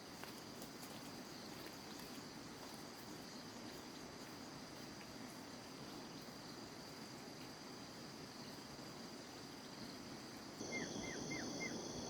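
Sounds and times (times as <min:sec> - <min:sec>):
insects droning high-pitched: 0:00.0 - 0:12.0.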